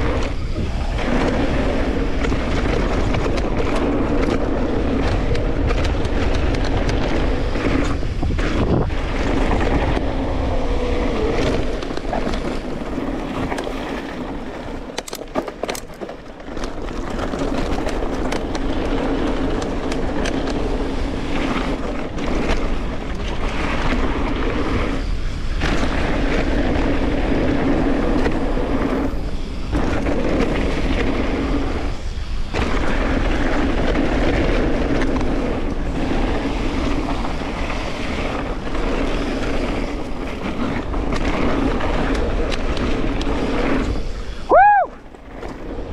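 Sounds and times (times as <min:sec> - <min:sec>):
tyres rumbling on dirt: 0:00.0 - 0:45.9
wind on microphone: 0:00.0 - 0:45.9.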